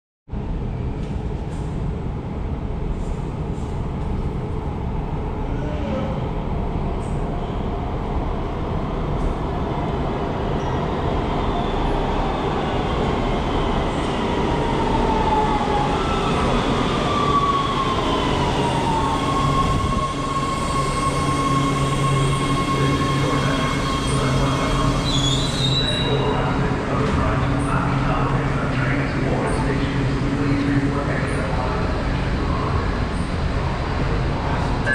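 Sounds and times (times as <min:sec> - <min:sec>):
subway train rumble: 0:00.3 - 0:34.9.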